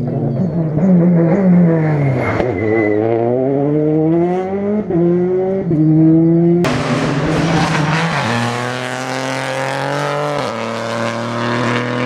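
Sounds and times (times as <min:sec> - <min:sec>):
rally car engine passing: 0:00.0 - 0:12.0.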